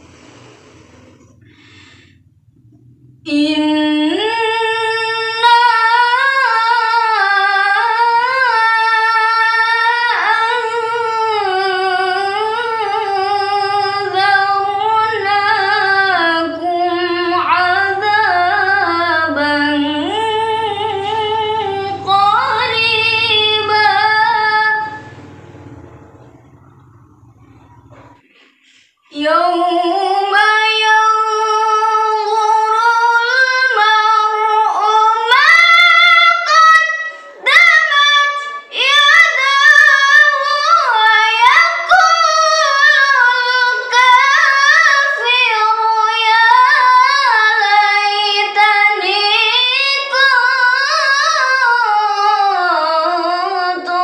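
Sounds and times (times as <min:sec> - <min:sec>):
woman reciting melodically: 0:01.3 - 0:25.5, 0:26.6 - 0:54.0.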